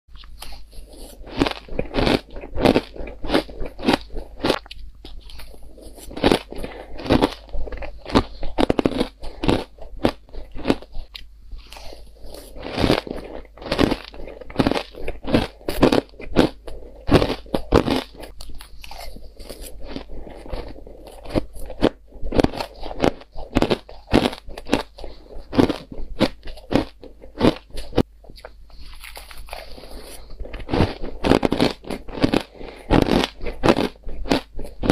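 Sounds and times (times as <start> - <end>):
chewing crushed ice crunches: 0.2 - 34.9.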